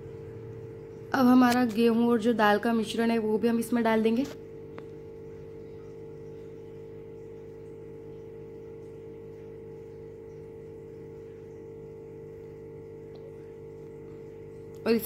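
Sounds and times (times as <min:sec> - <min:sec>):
steady tonal hum: 0:00.0 - 0:15.0.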